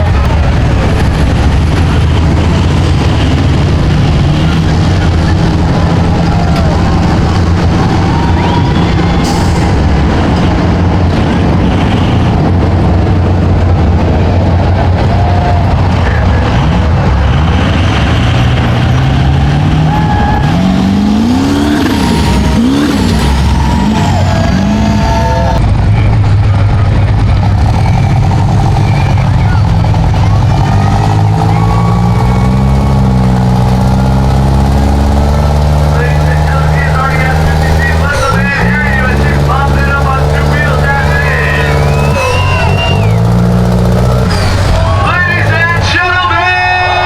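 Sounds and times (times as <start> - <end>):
truck engine running loud: 0.0 - 47.0.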